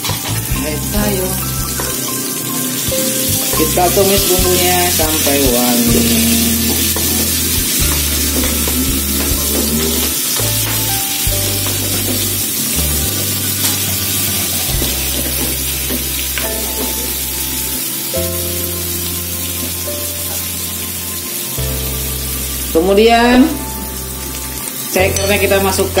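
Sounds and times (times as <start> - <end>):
background music with bass line: 0.0 - 2.1, 2.9 - 26.0
spice paste sizzling in oil: 0.0 - 26.0.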